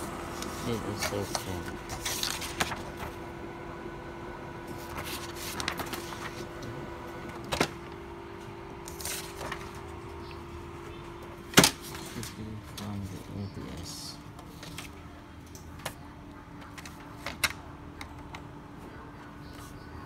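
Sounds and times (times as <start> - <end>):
laser printer humming: 0.0 - 20.0.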